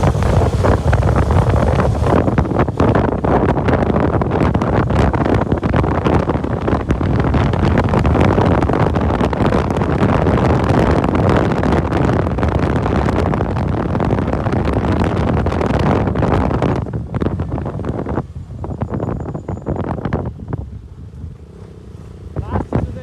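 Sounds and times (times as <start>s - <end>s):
motorcycle running: 0.0s - 23.0s
wind buffeting microphone: 0.0s - 23.0s.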